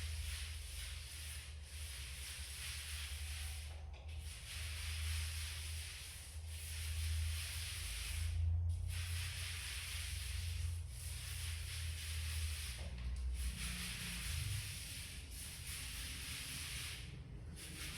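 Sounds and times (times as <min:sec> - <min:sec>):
paint brush rubbing on wall: 0:00.0 - 0:17.9.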